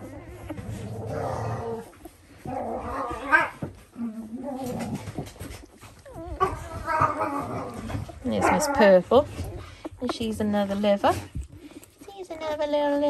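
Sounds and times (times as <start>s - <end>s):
dogs whimpering and whining: 0.0s - 13.0s.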